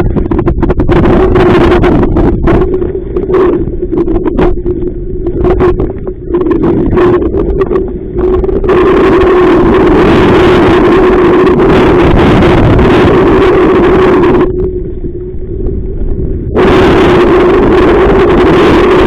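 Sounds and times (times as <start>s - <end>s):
steady low hum: 0.0s - 19.0s
strong wind on microphone: 0.0s - 19.0s.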